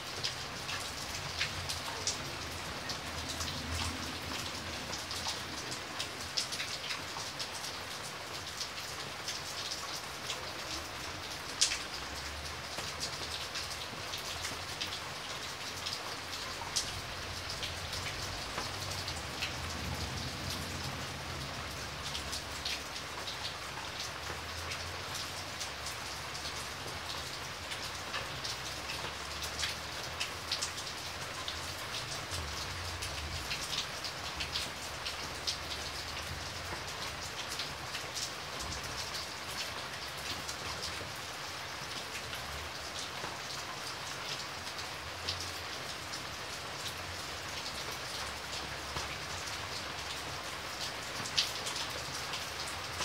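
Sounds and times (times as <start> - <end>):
rain hissing on paving stones: 0.0 - 53.0
raindrops splashing: 0.0 - 53.0.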